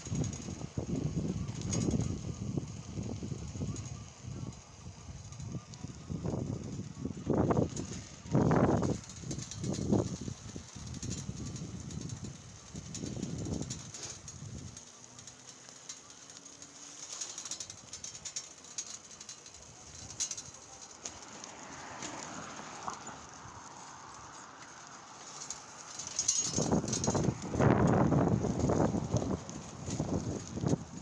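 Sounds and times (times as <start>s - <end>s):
bicycle freewheel ticking: 0.0s - 31.0s
faint road hiss: 0.0s - 31.0s.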